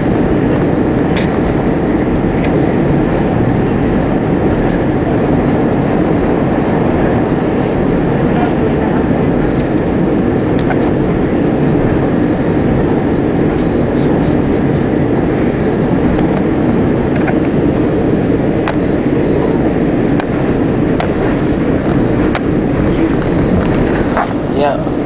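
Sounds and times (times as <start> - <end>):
rail clicks: 0.0 - 25.0
train wheels and motors rumbling: 0.0 - 25.0.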